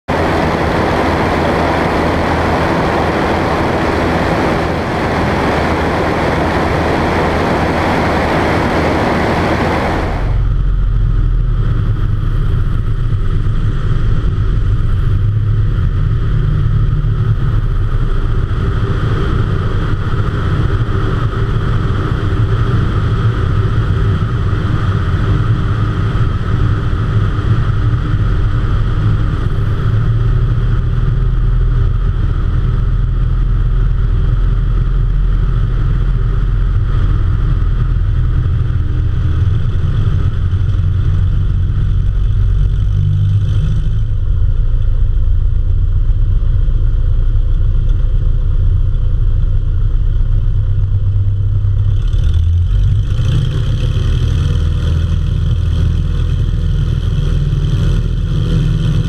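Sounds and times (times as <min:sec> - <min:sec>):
plane engine and propeller drone: 0:00.0 - 0:59.0
wind rushing on microphone: 0:00.1 - 0:52.0.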